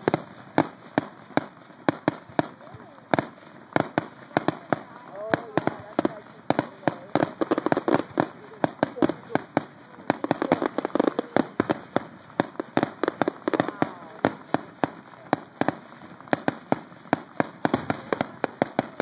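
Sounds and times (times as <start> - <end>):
fireworks bursting with bangs: 0.0 - 19.0.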